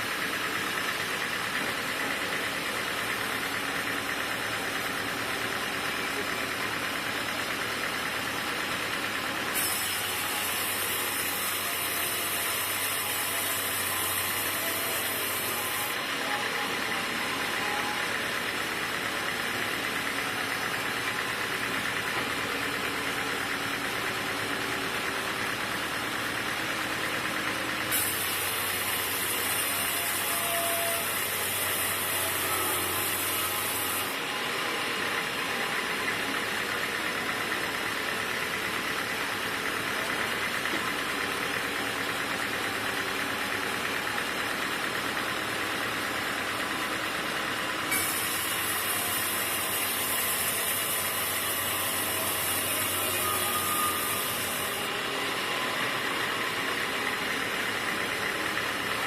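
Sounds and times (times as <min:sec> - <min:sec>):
sawmill machinery droning: 0:00.0 - 0:59.0.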